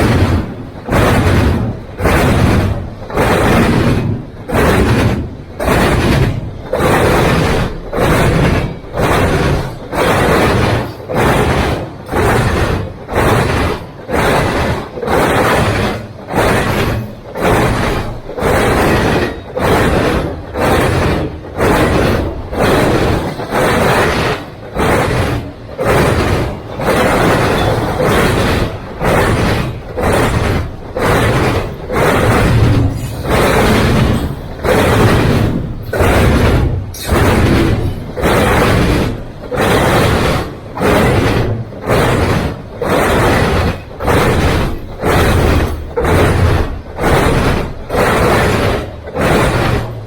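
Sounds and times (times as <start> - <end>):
freight train wheels rumbling on rail: 0.0 - 50.0.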